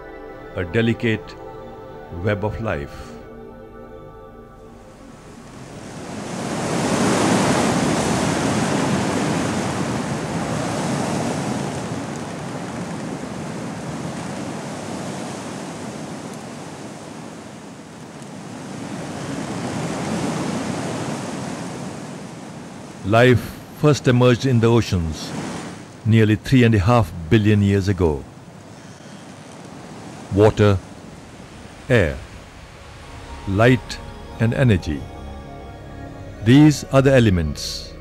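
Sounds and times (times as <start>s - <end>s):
ocean waves surging: 4.6s - 27.0s, 27.8s - 38.0s.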